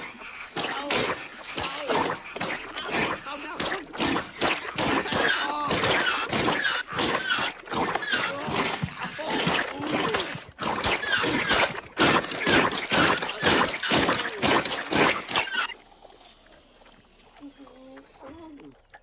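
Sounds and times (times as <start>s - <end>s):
clicks: 0.0s - 15.8s
splashy noises: 0.0s - 15.8s
squeaks and chirping glides: 0.0s - 15.8s.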